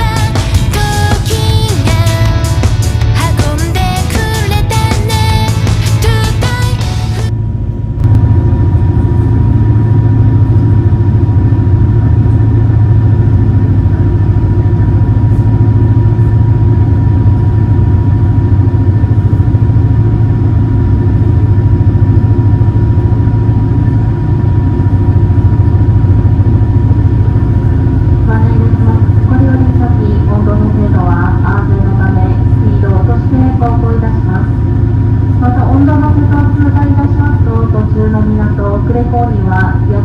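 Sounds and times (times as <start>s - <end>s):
boat engines droning: 0.0s - 40.0s
thin steady whine: 0.0s - 40.0s.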